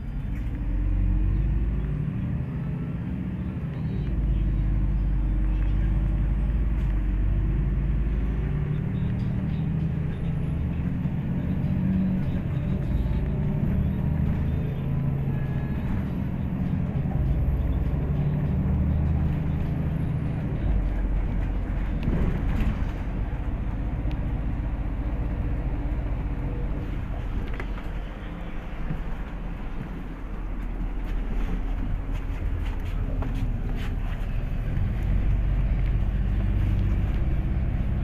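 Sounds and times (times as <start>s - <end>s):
bus diesel engine running: 0.0s - 38.0s
road rumble: 0.0s - 38.0s.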